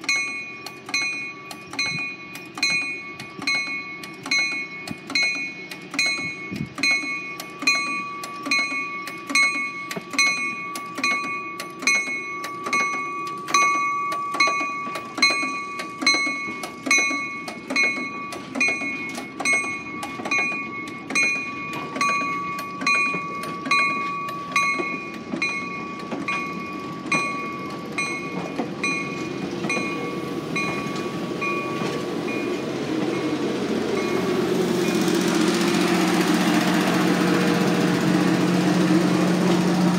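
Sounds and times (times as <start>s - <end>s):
diesel engines running: 0.0s - 39.9s
train warning bell ringing: 0.0s - 39.9s
train wheels rumbling: 0.0s - 39.9s.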